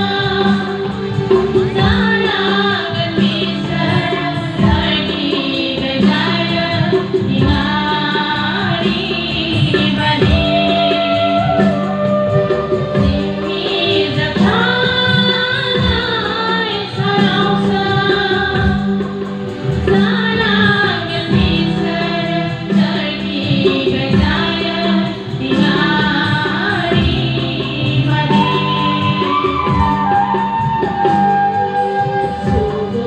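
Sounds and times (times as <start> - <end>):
song with female and group singing: 0.0 - 33.0.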